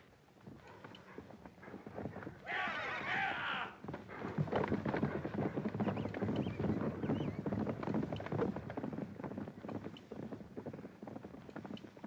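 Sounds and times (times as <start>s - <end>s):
horses galloping on dry ground: 0.0s - 12.0s.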